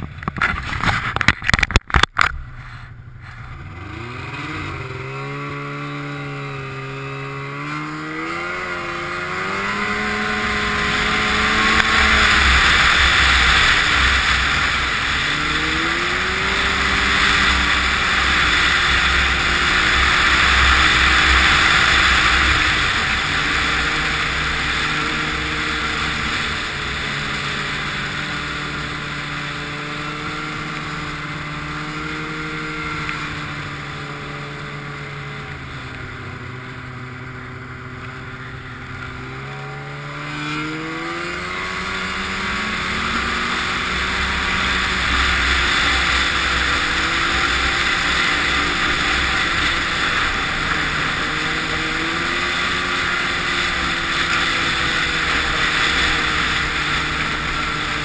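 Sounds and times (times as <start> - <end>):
snowmobile engine: 0.0 - 58.0.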